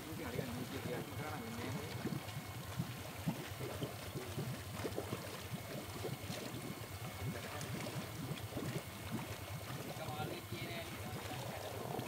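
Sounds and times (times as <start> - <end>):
pond water splashing and gurgling: 0.0 - 12.0.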